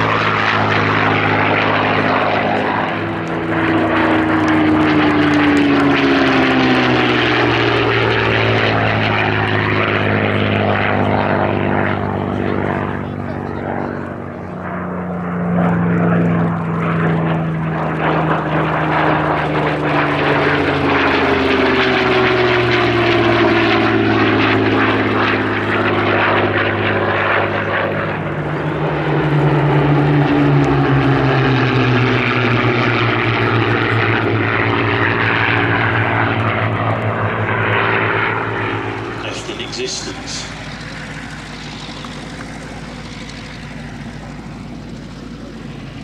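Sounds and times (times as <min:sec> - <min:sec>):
propeller aircraft flying past: 0:00.0 - 0:46.0.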